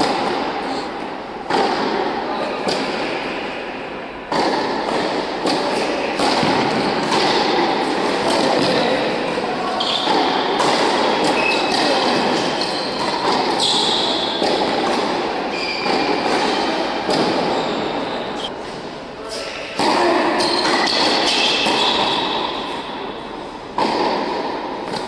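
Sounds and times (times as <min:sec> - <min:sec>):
tennis ball bouncing: 0:00.0 - 0:00.6, 0:01.4 - 0:03.4, 0:04.3 - 0:18.4, 0:19.8 - 0:23.0, 0:23.7 - 0:25.0
tennis racket strikes: 0:00.0 - 0:03.7, 0:04.3 - 0:18.5, 0:19.4 - 0:25.0
steady background din: 0:00.0 - 0:25.0.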